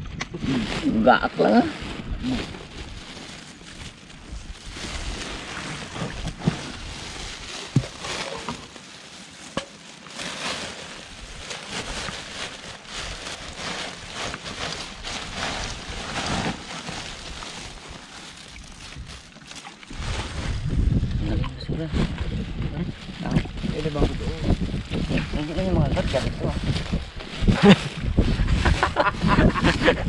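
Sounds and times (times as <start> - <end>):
plastic sack rustling: 0.4 - 30.0.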